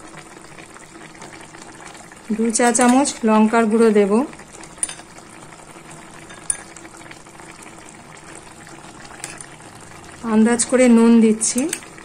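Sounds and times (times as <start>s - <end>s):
fish simmering with steady bubbling: 0.0s - 12.0s.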